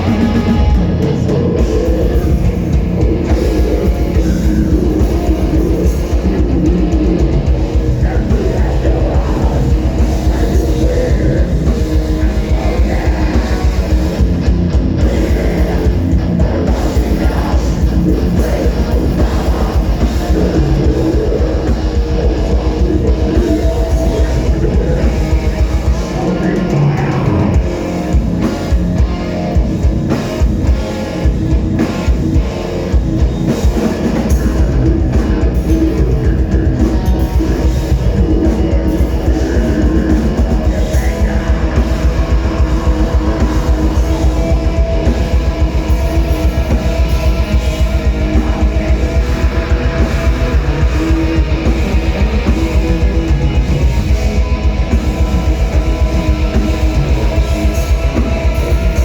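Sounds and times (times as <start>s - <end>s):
distorted electric guitars: 0.0s - 59.0s
drum kit: 0.0s - 59.0s.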